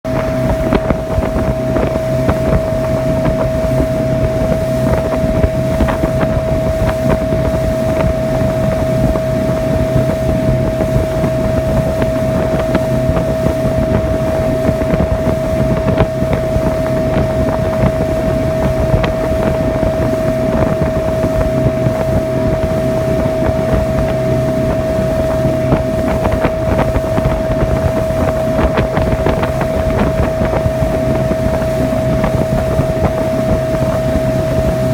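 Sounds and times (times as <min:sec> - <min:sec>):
boat moving through water: 0:00.0 - 0:34.9
motorboat engine running: 0:00.0 - 0:34.9
wind buffeting microphone: 0:00.0 - 0:34.9.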